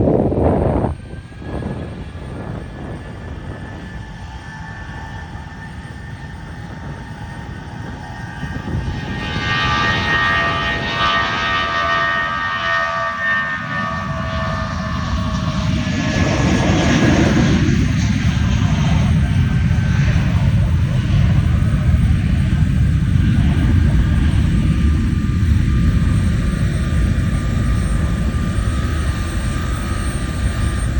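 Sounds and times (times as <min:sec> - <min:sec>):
airplane engines rumbling: 0:00.0 - 0:30.9
engine whine: 0:00.0 - 0:30.9.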